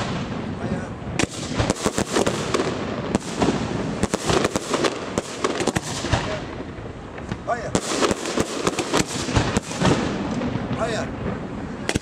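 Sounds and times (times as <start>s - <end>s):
rush of firework noise: 0.0s - 12.0s
firework shells bursting: 1.2s - 12.0s.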